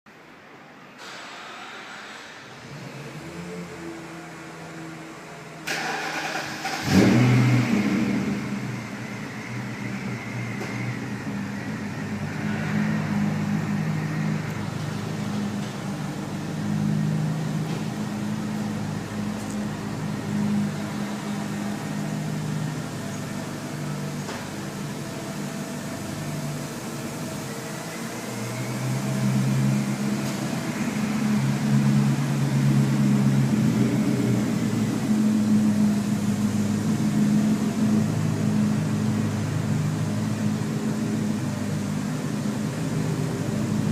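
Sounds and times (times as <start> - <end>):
car engine idling: 2.8 - 43.9.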